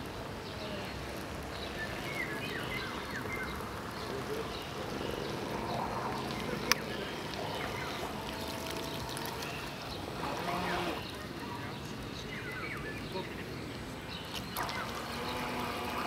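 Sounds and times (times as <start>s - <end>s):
model boat motor running: 0.0s - 12.0s, 14.3s - 16.0s.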